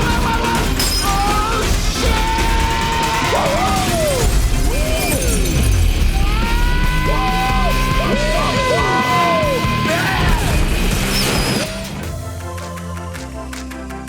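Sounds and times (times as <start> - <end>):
film soundtrack music: 0.0 - 14.0.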